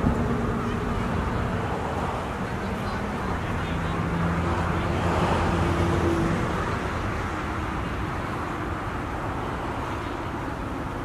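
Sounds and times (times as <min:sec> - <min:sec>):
traffic noise: 0:00.0 - 0:11.0
vehicle engine hum: 0:00.0 - 0:11.0.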